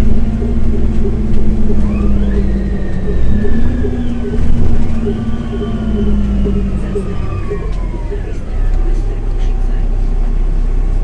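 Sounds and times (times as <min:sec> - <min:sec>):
bus engine hum: 0:00.0 - 0:11.0
bus whine rising in pitch: 0:00.0 - 0:11.0.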